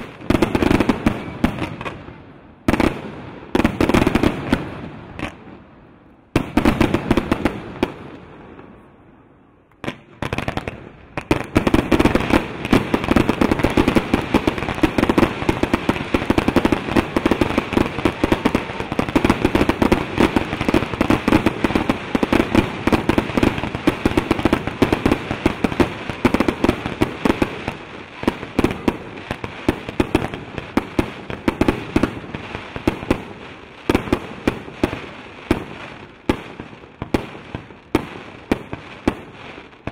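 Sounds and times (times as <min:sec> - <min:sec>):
firework bangs: 0:00.0 - 0:09.0, 0:09.7 - 0:39.9
firework barrage crackling: 0:00.0 - 0:39.9.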